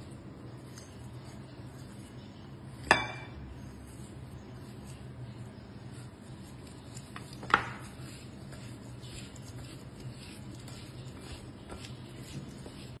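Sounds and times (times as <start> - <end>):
hand squishing fruit in a bowl: 0.0 - 13.0
steady low hum: 0.0 - 13.0.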